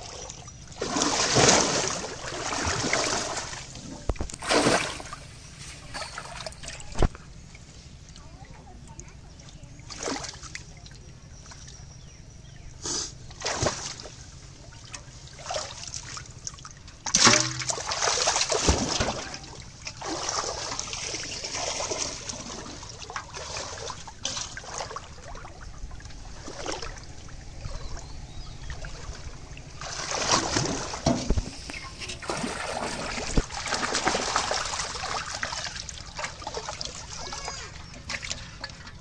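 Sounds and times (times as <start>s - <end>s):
pond water splashing: 0.0s - 7.1s, 9.8s - 11.8s, 12.9s - 39.0s.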